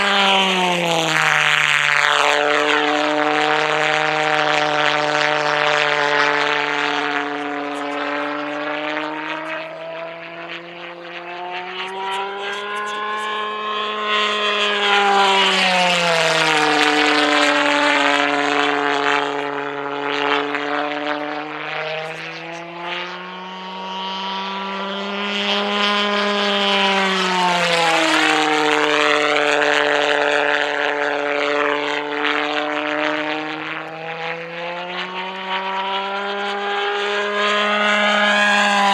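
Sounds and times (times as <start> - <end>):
model jet engine buzzing: 0.0 - 38.9.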